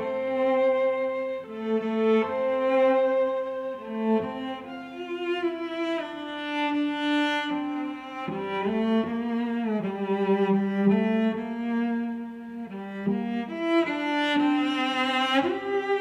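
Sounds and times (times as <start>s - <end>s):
slow bowed strings: 0.0s - 16.0s.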